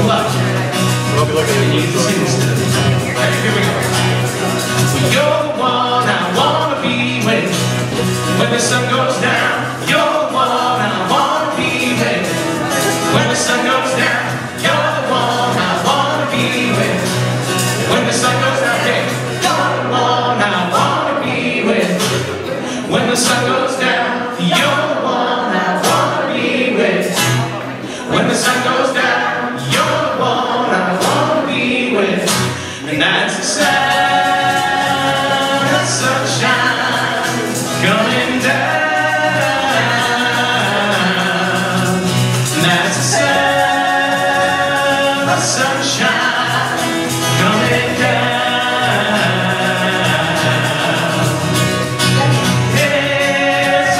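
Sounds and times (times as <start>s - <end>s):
group of voices singing: 0.0s - 53.9s
strummed acoustic guitar: 0.0s - 53.9s.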